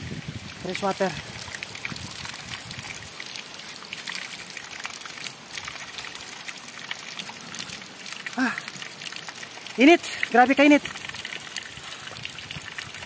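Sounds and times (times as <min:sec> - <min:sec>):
water splashing onto stones: 0:00.0 - 0:13.0.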